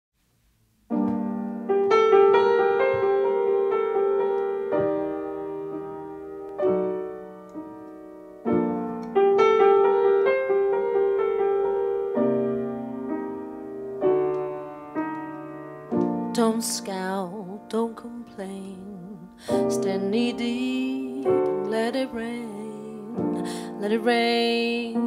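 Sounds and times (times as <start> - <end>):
slow piano chords: 0.6 - 25.0.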